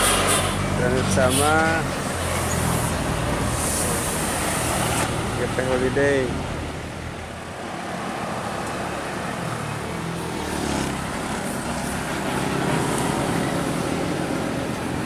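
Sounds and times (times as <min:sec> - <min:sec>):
bus driving past: 0:00.0 - 0:15.0.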